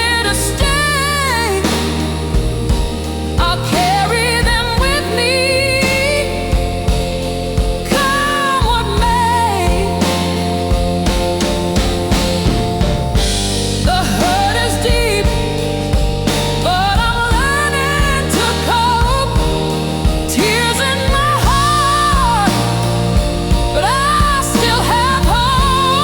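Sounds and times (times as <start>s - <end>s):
slow blues music: 0.0s - 26.0s.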